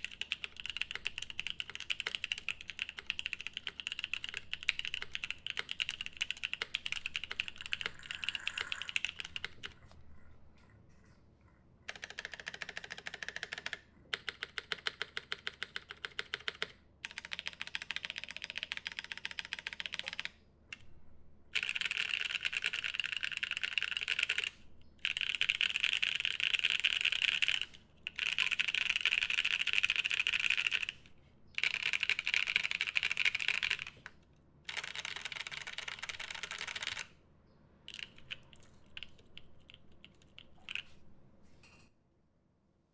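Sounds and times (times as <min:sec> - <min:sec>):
fast mechanical keyboard typing: 0:00.0 - 0:09.9, 0:11.9 - 0:20.8, 0:21.6 - 0:34.1, 0:34.7 - 0:37.1, 0:37.9 - 0:41.0.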